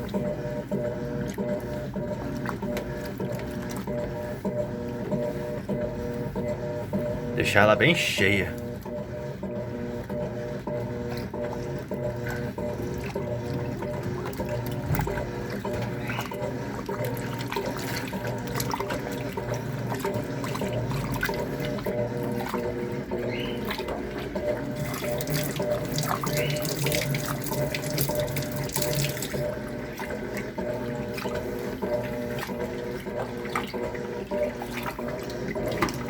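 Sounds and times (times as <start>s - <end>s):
water pouring into washing machine: 0.0s - 36.0s.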